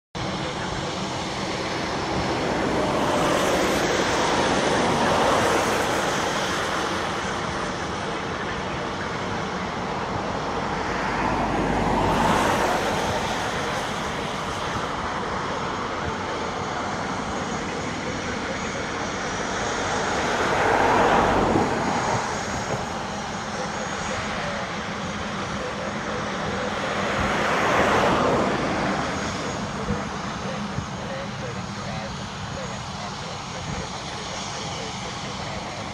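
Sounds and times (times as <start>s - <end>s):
jet taxiing: 0.2s - 35.9s.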